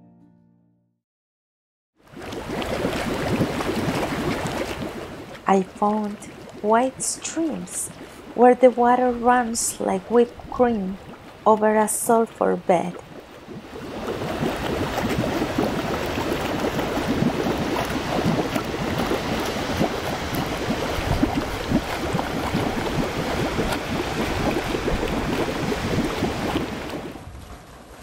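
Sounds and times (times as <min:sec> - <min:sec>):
stream water rushing and splashing: 0:02.0 - 0:28.0.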